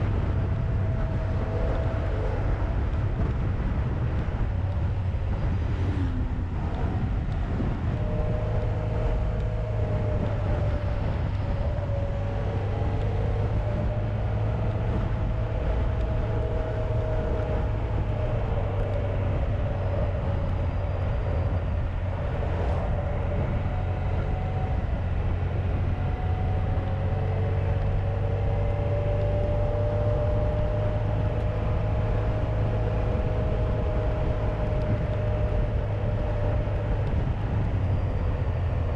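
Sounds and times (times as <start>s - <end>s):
motorcycle engine running: 0.0s - 38.9s
road noise: 0.0s - 38.9s
wind noise: 0.0s - 38.9s.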